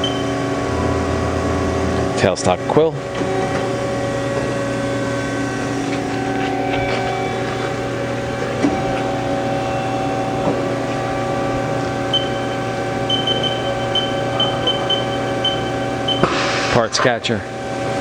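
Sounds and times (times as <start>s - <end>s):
lathe mechanical hum: 0.0s - 18.0s.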